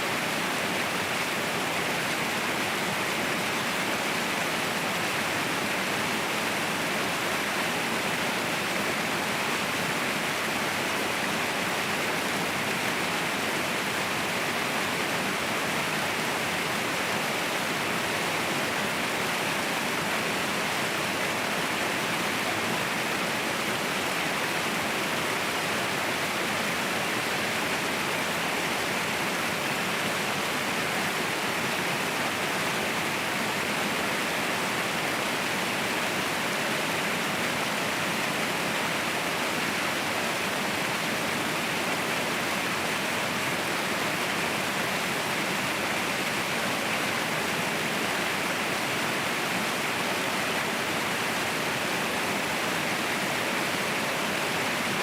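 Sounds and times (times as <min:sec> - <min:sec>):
waterfall hiss: 0:00.0 - 0:55.0.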